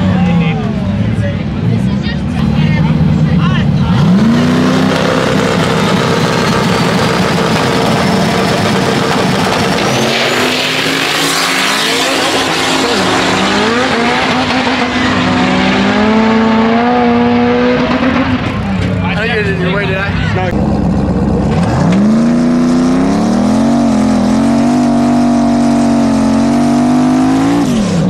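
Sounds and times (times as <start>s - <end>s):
tire noise: 0.0s - 28.0s
truck engine revving: 0.0s - 28.0s.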